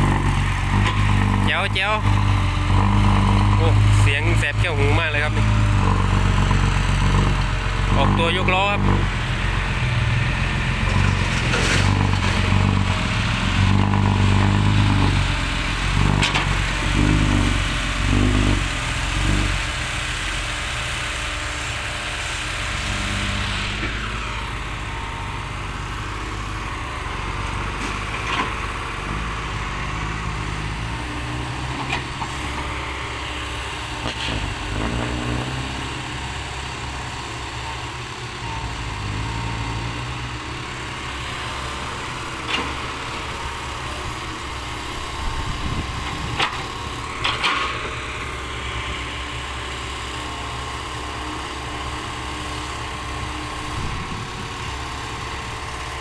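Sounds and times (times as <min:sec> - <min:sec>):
dump truck diesel engine: 0:00.0 - 0:56.0.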